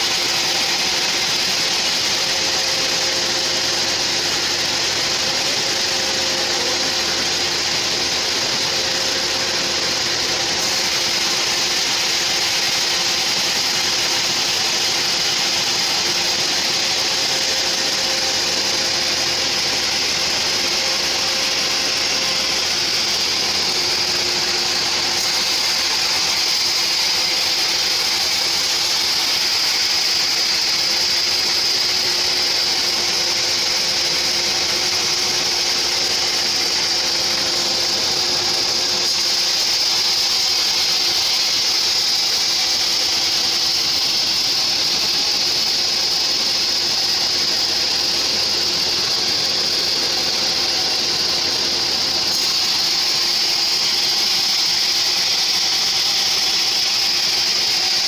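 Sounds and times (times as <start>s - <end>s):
band saw blade cutting wood: 0.0s - 58.0s
motor humming: 0.0s - 58.0s.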